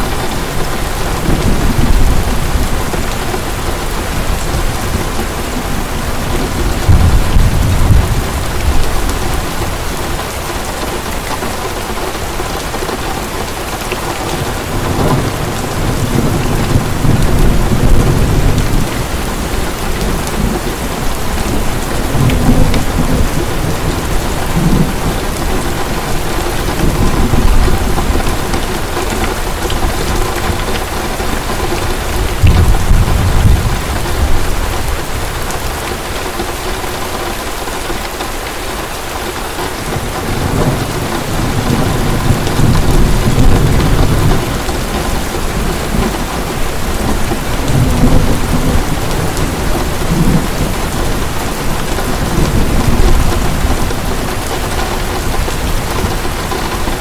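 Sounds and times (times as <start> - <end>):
thunder rolling: 0.0 - 10.2, 14.4 - 35.9, 39.8 - 57.0
heavy rain pouring: 0.0 - 57.0.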